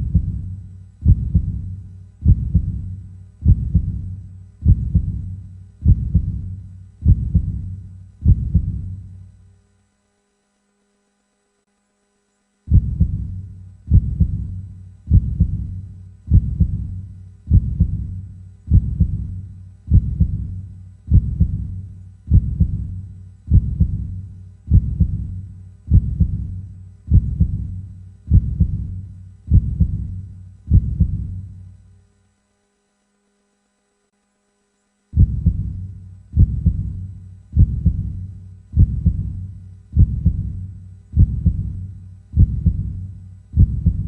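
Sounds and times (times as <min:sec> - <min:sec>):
slow heartbeat thumps: 0:00.0 - 0:09.2, 0:12.7 - 0:31.6, 0:35.2 - 0:44.0.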